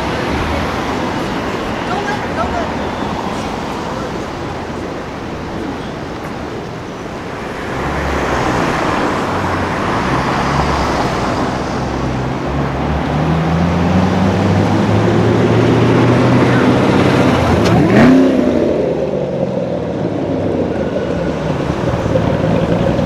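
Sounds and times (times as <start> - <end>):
car engine revving: 0.0 - 23.0
street traffic: 0.0 - 23.0.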